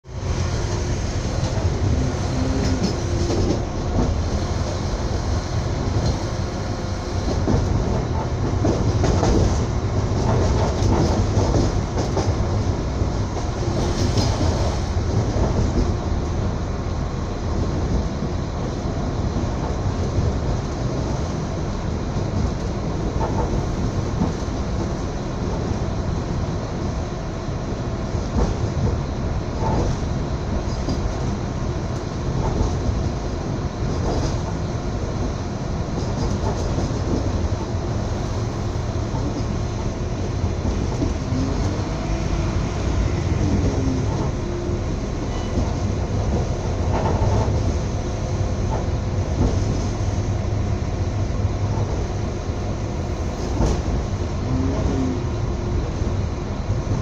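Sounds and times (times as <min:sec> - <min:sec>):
train wheels rumbling on track: 0:00.0 - 0:57.0
train clattering: 0:00.1 - 0:57.0.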